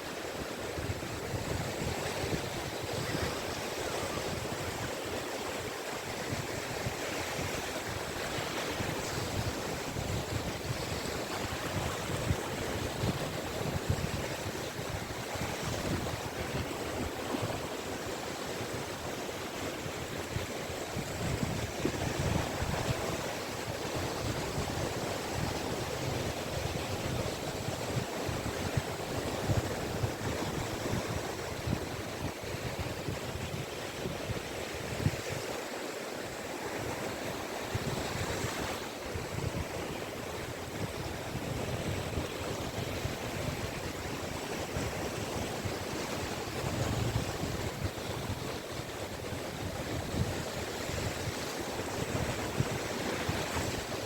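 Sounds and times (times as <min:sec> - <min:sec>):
small waves washing onto beach: 0:00.0 - 0:54.0
wind rumble on microphone: 0:00.1 - 0:54.0.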